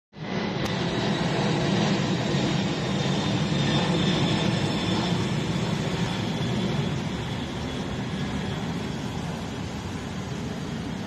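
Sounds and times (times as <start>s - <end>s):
jet engines rumbling overhead: 0.1s - 11.0s
faint high jet whine: 0.2s - 11.0s.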